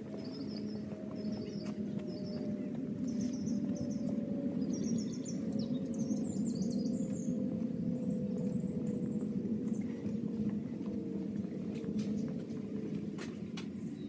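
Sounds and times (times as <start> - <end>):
birds chirping: 0.0 - 14.0
low rumble: 0.0 - 14.0.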